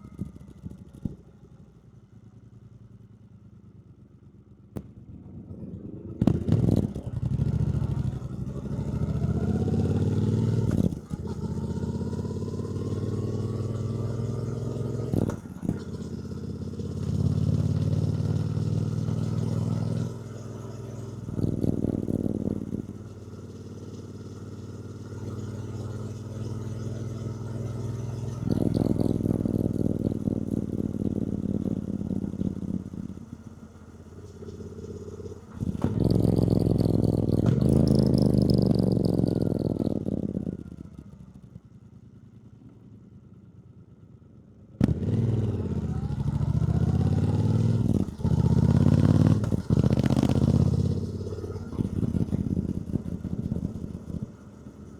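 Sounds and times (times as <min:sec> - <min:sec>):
motorcycle engine accelerating: 0:04.8 - 0:54.9.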